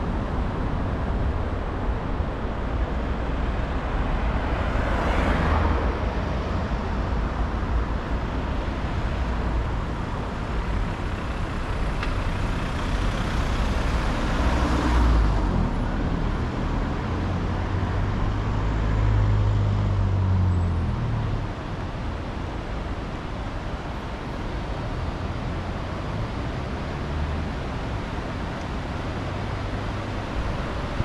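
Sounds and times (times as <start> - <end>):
passing vehicle engine hum: 0.0 - 31.0
traffic noise: 0.0 - 31.0.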